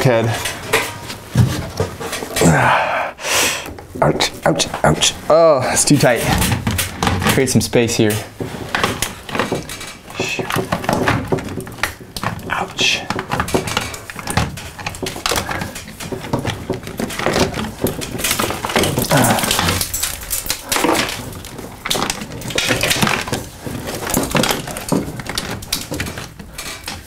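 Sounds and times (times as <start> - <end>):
plaster crackling and breaking: 0.0 - 3.0, 3.7 - 27.0.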